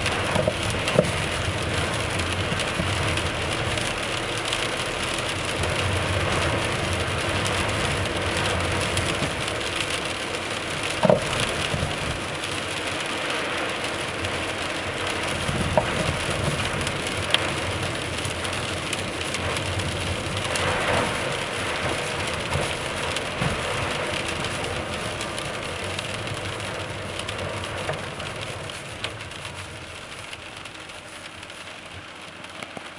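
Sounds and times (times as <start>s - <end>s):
road and tyre noise: 0.0s - 32.9s.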